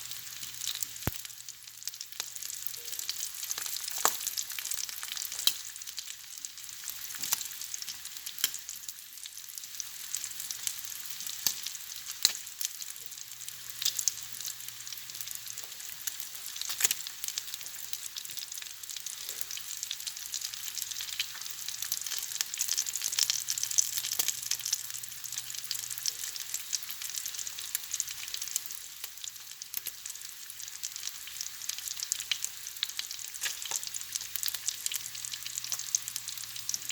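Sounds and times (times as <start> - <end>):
bacon sizzling in a pan: 0.0 - 36.9.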